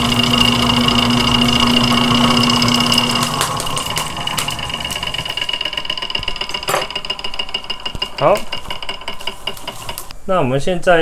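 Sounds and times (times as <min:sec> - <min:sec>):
electric motor humming: 0:00.0 - 0:10.1.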